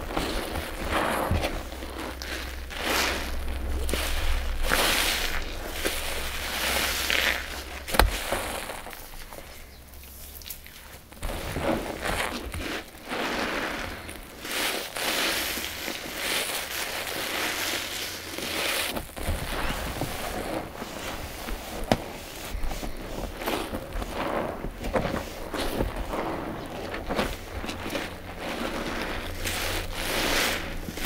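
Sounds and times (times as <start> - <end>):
wet sponges squelching: 0.0 - 31.0.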